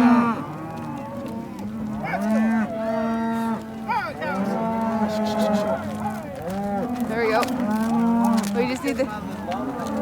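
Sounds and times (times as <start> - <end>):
cattle mooing: 0.0 - 10.0.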